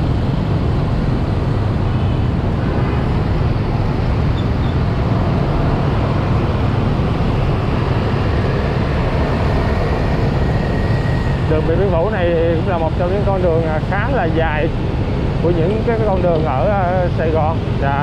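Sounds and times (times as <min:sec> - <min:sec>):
heavy low rumble: 0:00.0 - 0:18.0
motorbikes and cars in traffic: 0:00.0 - 0:18.0.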